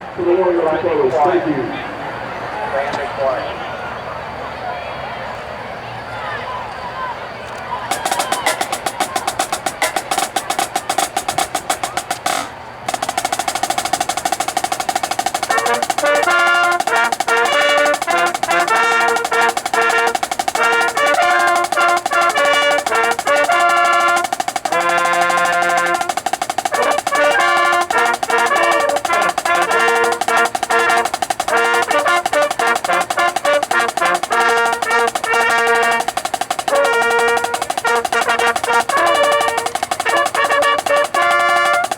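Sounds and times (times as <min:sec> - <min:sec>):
marching band playing: 0:00.0 - 0:03.6, 0:07.8 - 0:41.9
snare drum roll: 0:07.9 - 0:41.9.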